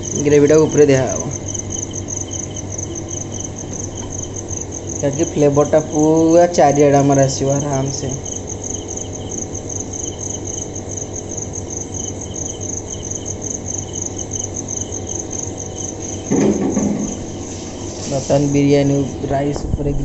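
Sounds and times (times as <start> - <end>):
crickets chirping: 0.0 - 20.0
low background hum: 0.0 - 20.0.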